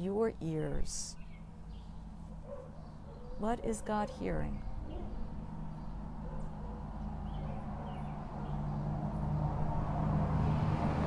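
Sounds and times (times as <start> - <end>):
car engine and tyre rumble: 1.1 - 11.0.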